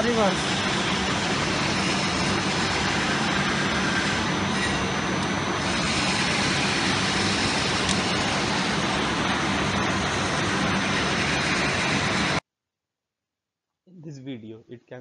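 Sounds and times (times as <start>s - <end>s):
machine running with low hum: 0.0s - 12.4s.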